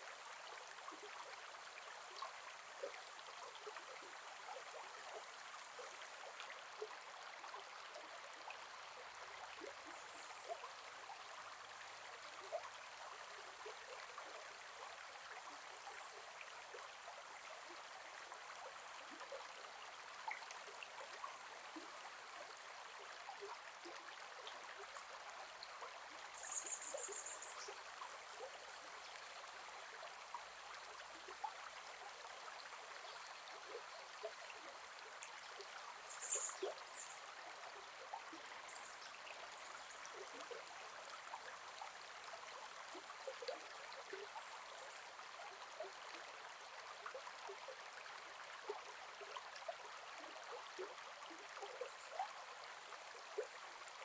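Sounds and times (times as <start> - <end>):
river water babbling: 0.0 - 54.0.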